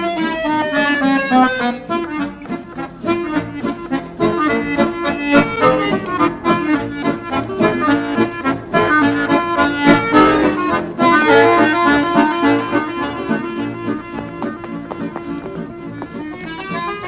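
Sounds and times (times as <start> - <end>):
accordion dance tune: 0.0 - 17.0.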